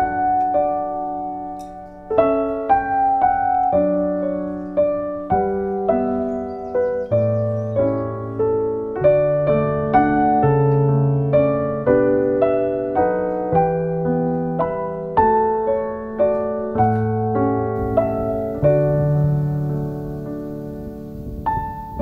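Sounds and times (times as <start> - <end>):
slow gentle solo piano: 0.0 - 22.0.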